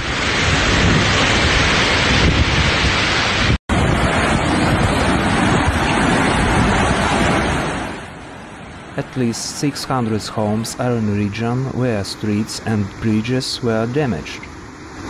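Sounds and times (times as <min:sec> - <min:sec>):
heavy rain: 0:00.0 - 0:14.4
rushing floodwater: 0:00.0 - 0:15.0.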